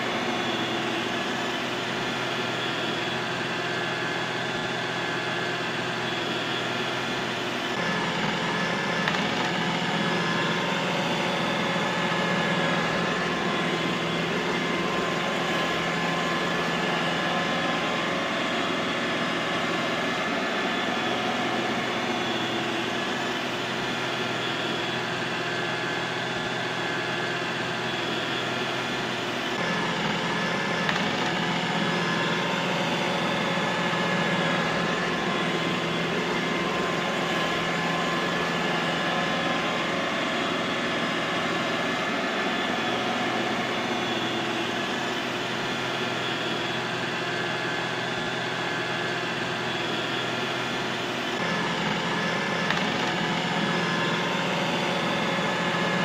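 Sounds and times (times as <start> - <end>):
robot vacuum cleaner whirring: 5.1 - 56.0.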